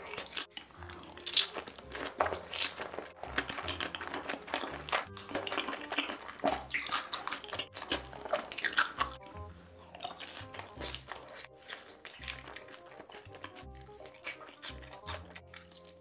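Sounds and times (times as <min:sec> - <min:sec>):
background music with low beat: 0:00.0 - 0:16.0
crunching bites of fried chicken: 0:00.0 - 0:16.0.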